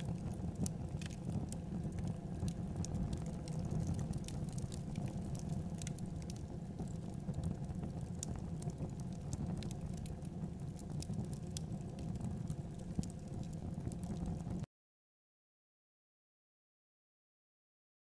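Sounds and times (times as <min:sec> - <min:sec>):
open fire crackling: 0:00.0 - 0:14.7
roasting chicken popping and sizzling: 0:00.0 - 0:14.7.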